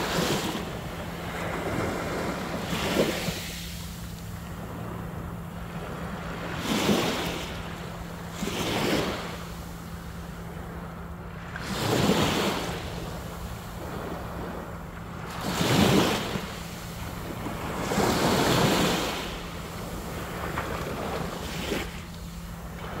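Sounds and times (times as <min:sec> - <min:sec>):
small waves lapping on sand: 0:00.0 - 0:23.0.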